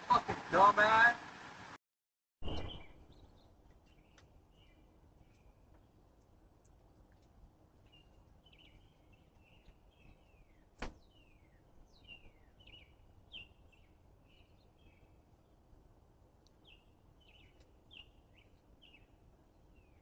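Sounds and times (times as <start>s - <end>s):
faint birds chirping: 2.4s - 20.0s.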